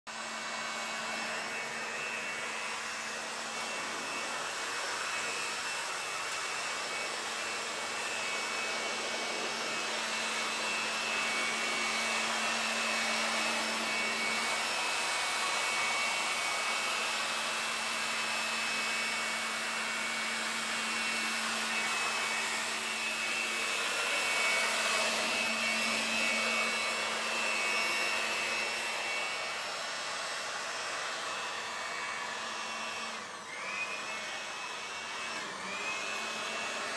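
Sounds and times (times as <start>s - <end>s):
small electric motor running: 0.1s - 36.9s.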